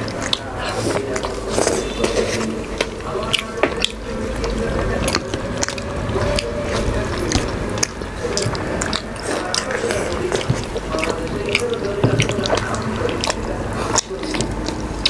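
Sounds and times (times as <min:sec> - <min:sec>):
wet chewing and lip smacks: 0:00.0 - 0:15.0.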